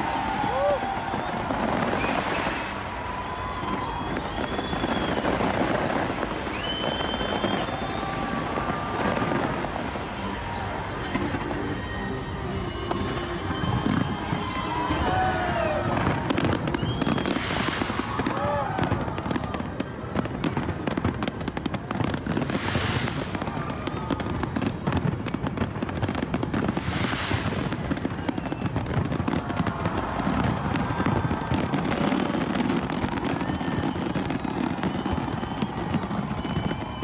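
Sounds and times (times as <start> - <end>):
fireworks bangs and crackles: 0.0 - 37.0
fireworks hissing: 0.0 - 37.0.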